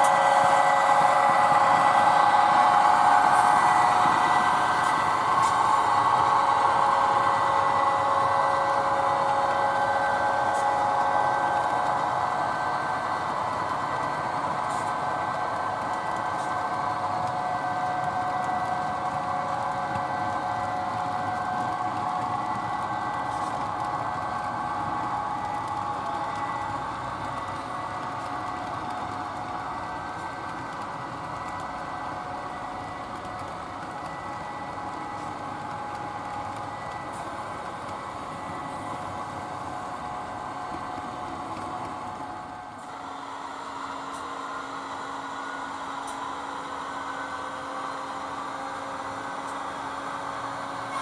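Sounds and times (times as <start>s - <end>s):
model train whining: 0.0s - 51.0s.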